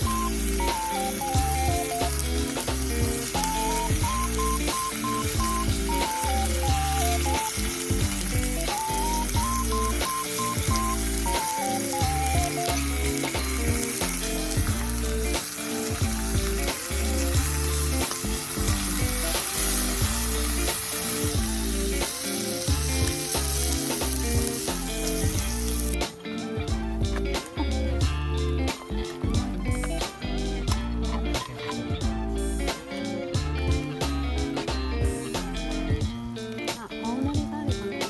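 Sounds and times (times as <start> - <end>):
background music with melody: 0.0 - 38.0
food sizzling over a wood fire: 0.0 - 38.0.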